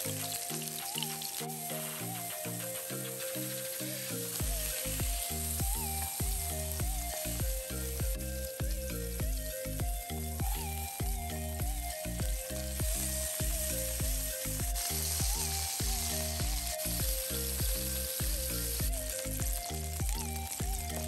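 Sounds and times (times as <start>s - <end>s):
fish sizzling in a frying pan: 0.0s - 9.0s, 12.6s - 21.0s
background music with steady beat: 0.0s - 21.0s.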